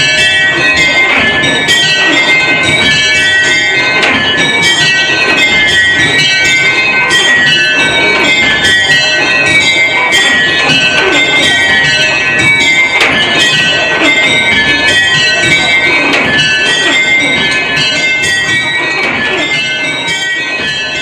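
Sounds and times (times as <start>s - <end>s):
small tower bells change ringing: 0.0s - 21.0s.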